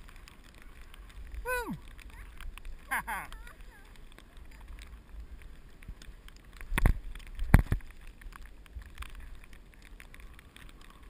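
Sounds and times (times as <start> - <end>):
sled runners rumbling on snow: 0.0 - 11.0
wind: 0.0 - 11.0.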